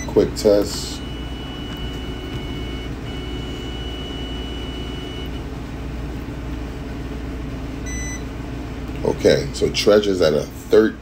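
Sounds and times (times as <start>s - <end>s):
analyzer hum: 0.0s - 11.0s.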